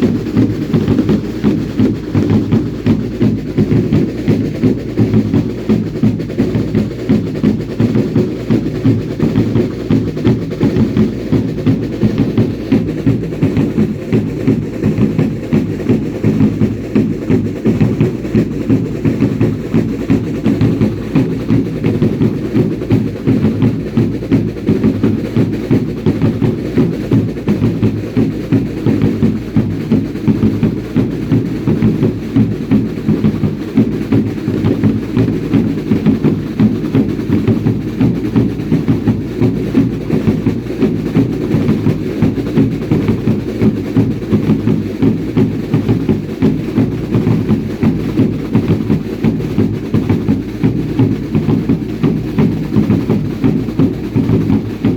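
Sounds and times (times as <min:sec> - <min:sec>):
drums beating fast rhythm: 0:00.0 - 0:54.9.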